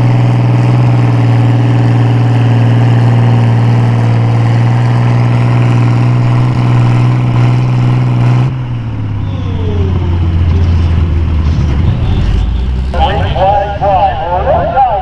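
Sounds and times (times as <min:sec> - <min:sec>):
tractor engine revving: 0:00.0 - 0:15.0.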